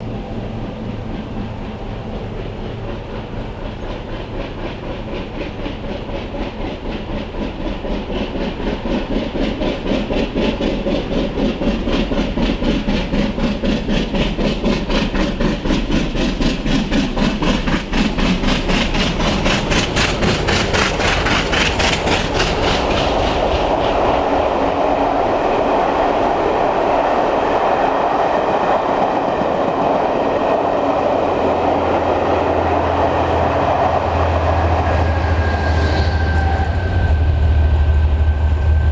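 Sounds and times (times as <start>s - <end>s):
steam locomotive exhaust beats: 0.0s - 38.9s
train rolling by: 0.0s - 38.9s.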